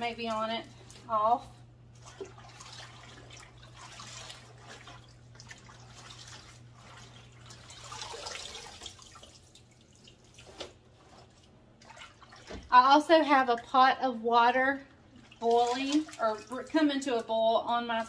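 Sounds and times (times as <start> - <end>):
water sloshing and dripping: 0.0 - 18.0.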